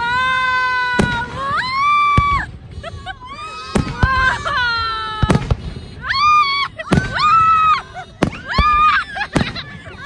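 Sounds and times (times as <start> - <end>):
high-pitched firework wails: 0.0 - 10.0
firework bangs: 0.2 - 10.0.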